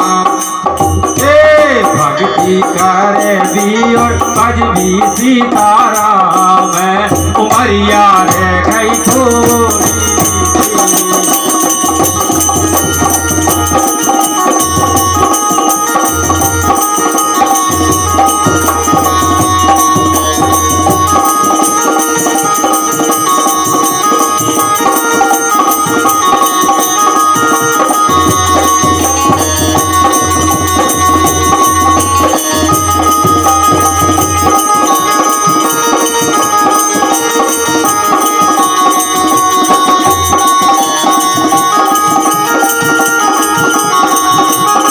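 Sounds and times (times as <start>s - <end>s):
drums: 0.0s - 44.9s
jingling percussion: 0.0s - 44.9s
wavering held melody: 0.0s - 44.9s.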